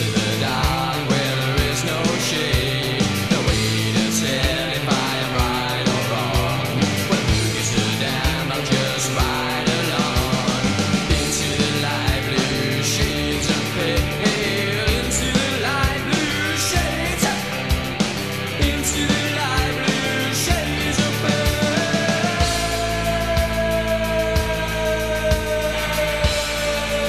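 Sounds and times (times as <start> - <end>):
gothic rock band playing: 0.0 - 27.0
heavy bass line: 0.0 - 27.0
steady drum beat: 0.0 - 27.0.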